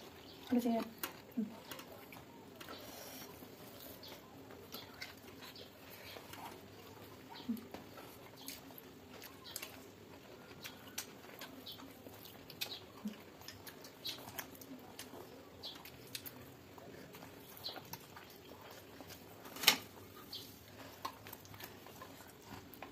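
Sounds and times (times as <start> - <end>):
chewing smacks and clicks: 0.0 - 22.9.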